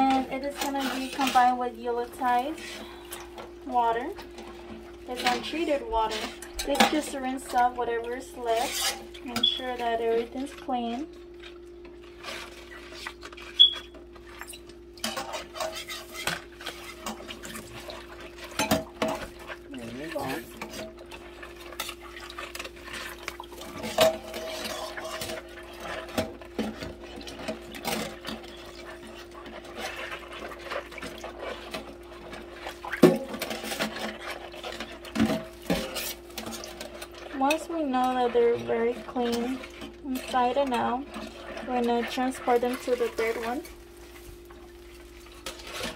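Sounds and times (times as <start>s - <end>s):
brush scrubbing in water: 0.0s - 11.0s, 12.0s - 45.9s
steady low hum: 0.0s - 45.9s.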